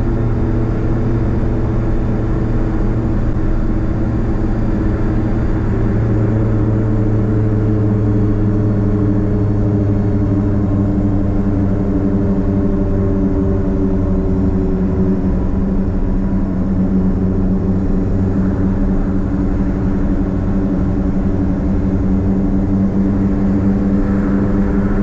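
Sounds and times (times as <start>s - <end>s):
car exhaust droning: 0.0s - 25.0s.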